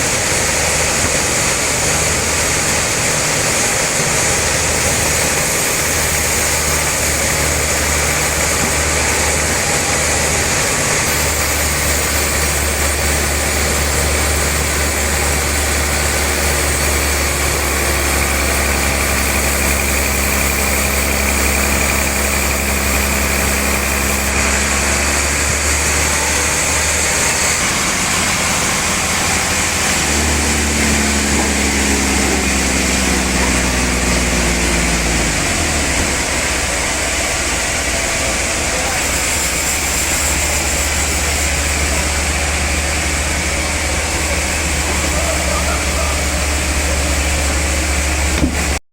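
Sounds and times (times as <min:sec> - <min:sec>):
saw rasping: 0:00.0 - 0:48.8
engine hum: 0:00.0 - 0:48.9.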